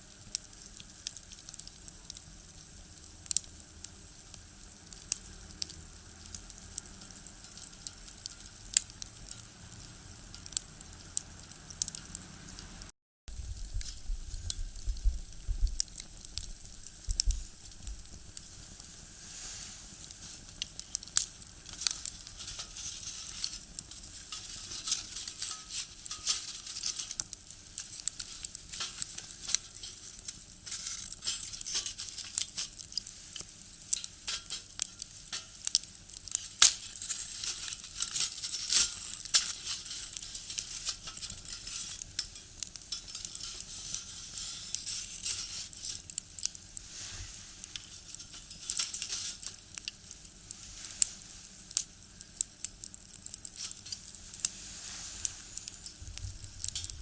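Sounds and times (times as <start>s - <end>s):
firewood crackling in stove: 0.0s - 57.0s.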